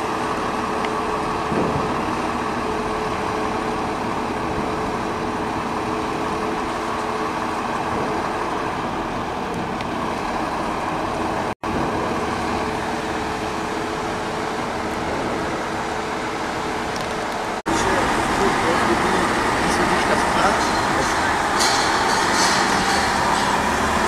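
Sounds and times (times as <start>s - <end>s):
truck diesel engine idling fast: 0.0s - 24.0s.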